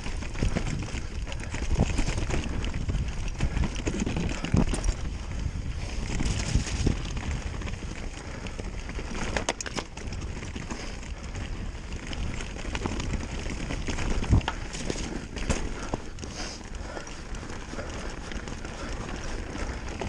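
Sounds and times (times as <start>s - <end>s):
bike clicks and rattles: 0.0s - 20.0s
bike tyres on dirt and leaves: 0.0s - 20.0s.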